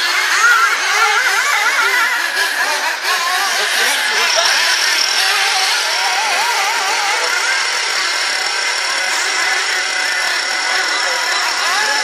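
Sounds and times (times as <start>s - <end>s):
rc buggy motors revving: 0.0s - 12.0s.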